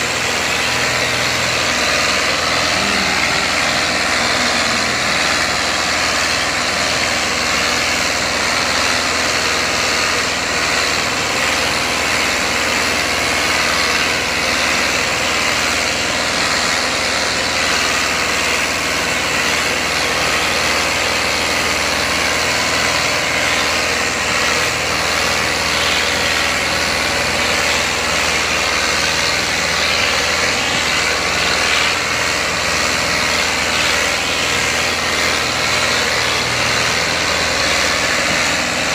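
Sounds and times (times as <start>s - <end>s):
tractor diesel engines running: 0.0s - 38.9s.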